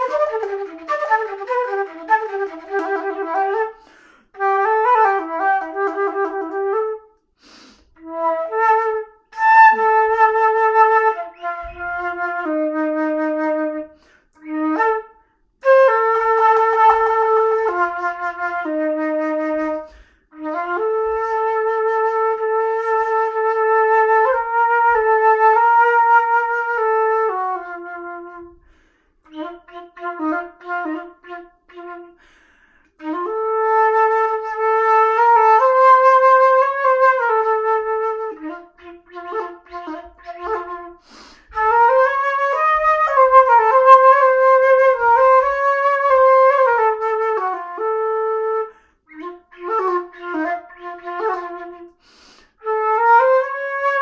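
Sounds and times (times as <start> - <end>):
solo flute playing: 0.0 - 54.0.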